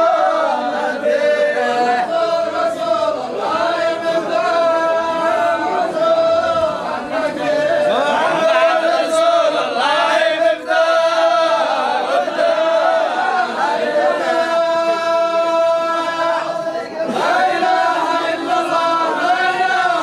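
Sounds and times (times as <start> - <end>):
men chanting a hymn: 0.0 - 20.0.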